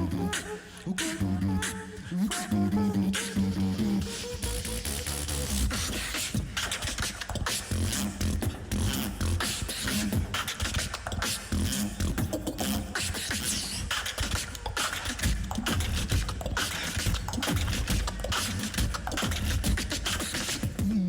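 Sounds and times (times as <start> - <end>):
beatbox through microphone: 0.0 - 21.0.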